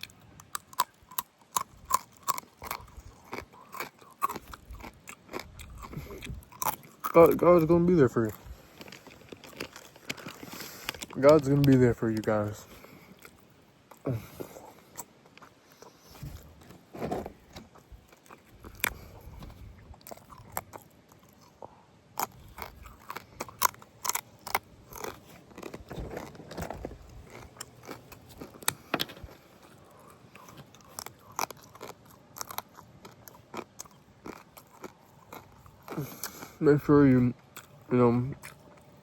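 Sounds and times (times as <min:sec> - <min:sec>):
chewing and crunching chicken: 0:00.0 - 0:39.0.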